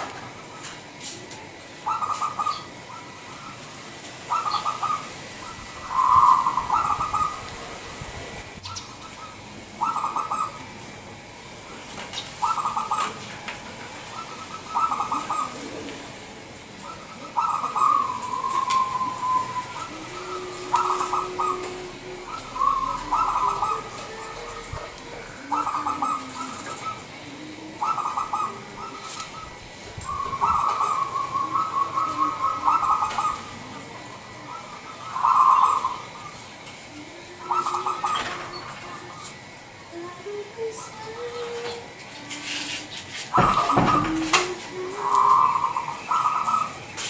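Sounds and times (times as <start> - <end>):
dove cooing: 0.0 - 47.0.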